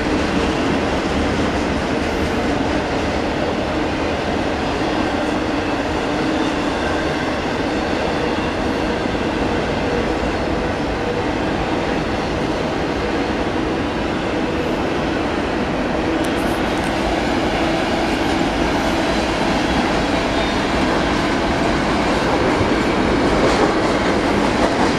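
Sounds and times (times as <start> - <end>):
freight train rumbling on rails: 0.0 - 24.9.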